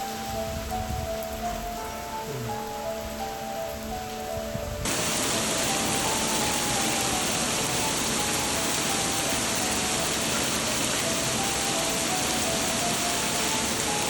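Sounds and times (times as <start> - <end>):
heavy rain: 0.0 - 14.0
quiet background music: 0.0 - 14.0.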